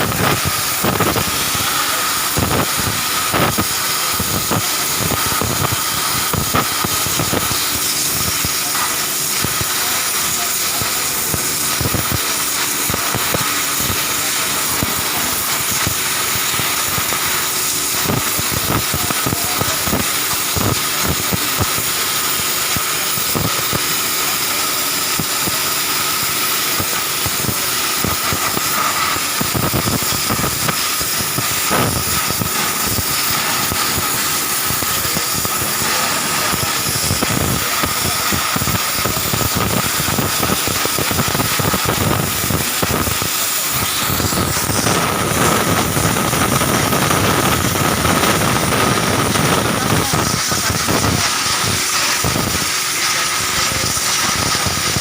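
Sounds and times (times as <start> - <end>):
pressure washer water jet hiss: 0.0 - 55.0
pump motor hum: 0.0 - 55.0.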